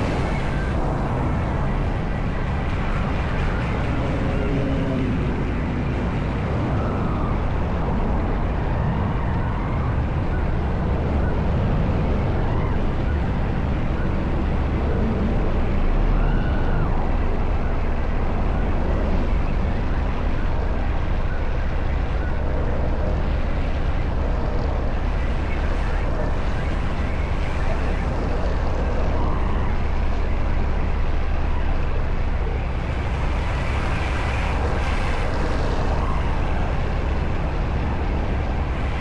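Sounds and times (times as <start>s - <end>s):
steady low rush of noise: 0.0s - 39.0s.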